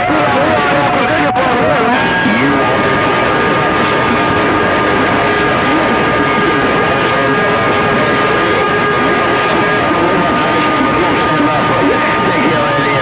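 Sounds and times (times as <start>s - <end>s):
faint garbled voices: 0.0s - 13.0s
radio static hiss: 0.1s - 13.0s.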